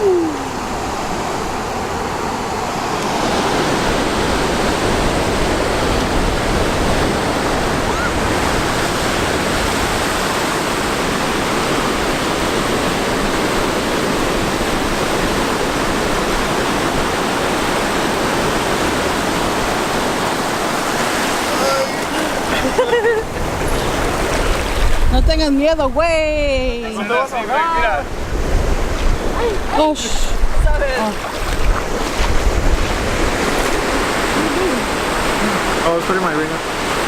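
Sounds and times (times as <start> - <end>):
ocean surf on a beach: 0.0 - 37.0.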